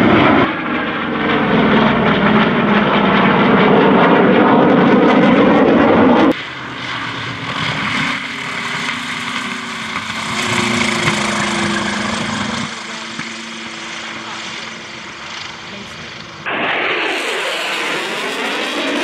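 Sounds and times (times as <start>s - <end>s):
jet roar: 0.0s - 19.0s
propeller plane engine droning: 0.0s - 19.0s.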